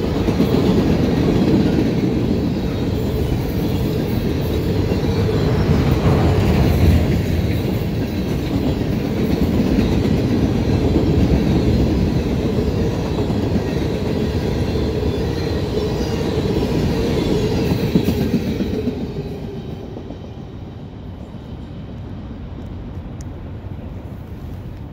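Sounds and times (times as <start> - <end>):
freight train wheels rumbling: 0.0 - 24.9.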